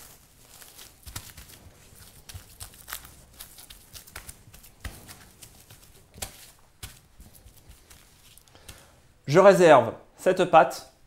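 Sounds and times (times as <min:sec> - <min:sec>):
plastic film crinkling: 0:00.0 - 0:08.9
hands patting dough: 0:00.0 - 0:09.2.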